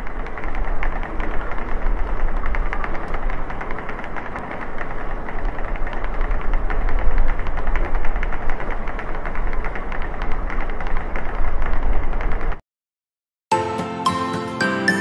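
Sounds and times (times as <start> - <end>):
suitcase wheels on hard floor: 0.0 - 12.6.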